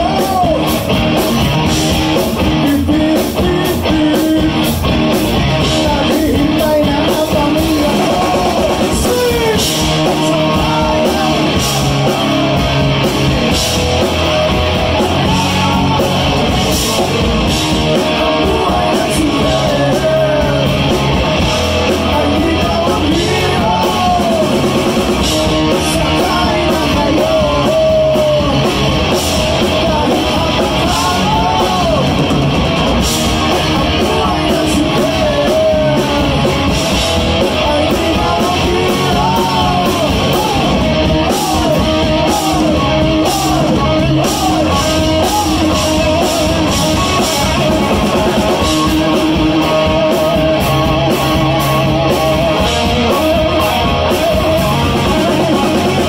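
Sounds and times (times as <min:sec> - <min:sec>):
person singing: 0:00.0 - 0:00.9, 0:02.2 - 0:04.9, 0:05.6 - 0:32.4, 0:33.0 - 0:56.0
live rock band playing: 0:00.0 - 0:56.0.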